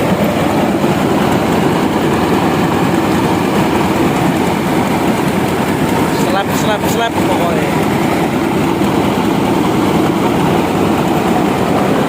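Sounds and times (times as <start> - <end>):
diesel engine running rice mill: 0.0 - 12.0.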